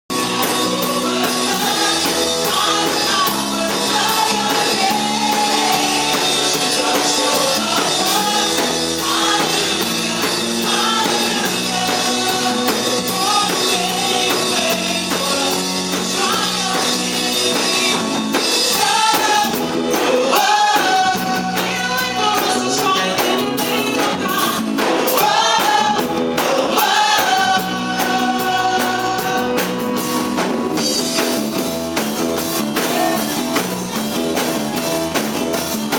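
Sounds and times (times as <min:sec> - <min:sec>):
gospel singing over a band: 0:00.1 - 0:35.9.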